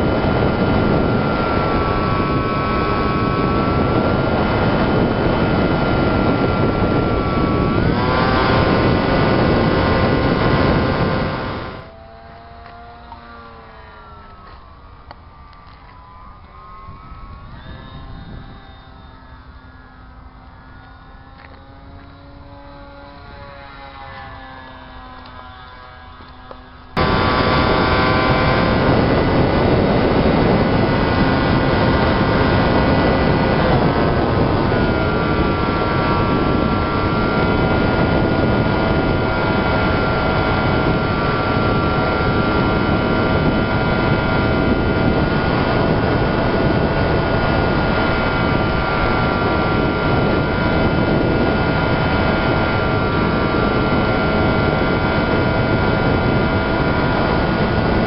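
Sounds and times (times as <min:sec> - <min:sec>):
wind rush: 0:00.0 - 0:23.9, 0:26.9 - 0:58.0
model plane motor whine: 0:00.0 - 0:58.0
motor and propeller drone: 0:00.0 - 0:58.0.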